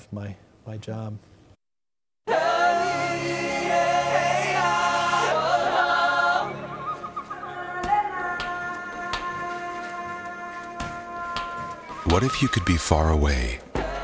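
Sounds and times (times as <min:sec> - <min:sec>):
voices singing in chords: 0:02.2 - 0:14.0.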